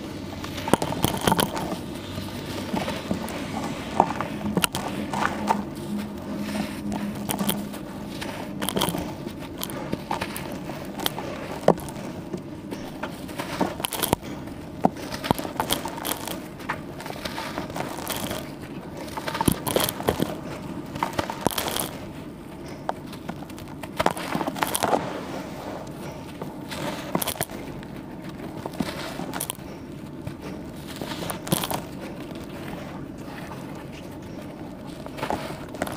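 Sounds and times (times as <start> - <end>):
wet charcoal crackling and crunching: 0.0 - 35.9.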